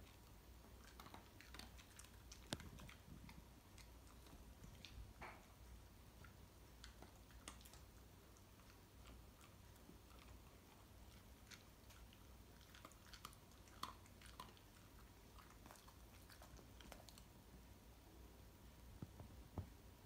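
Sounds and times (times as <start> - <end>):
dog chewing dry kibble: 0.0 - 5.2, 6.2 - 17.3.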